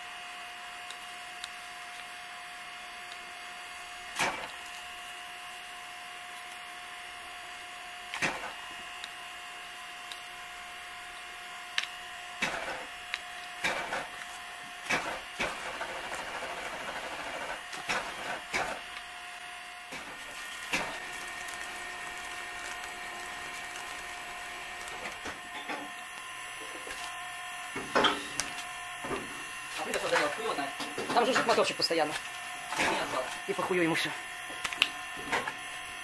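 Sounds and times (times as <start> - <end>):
machine humming: 0.0 - 36.0.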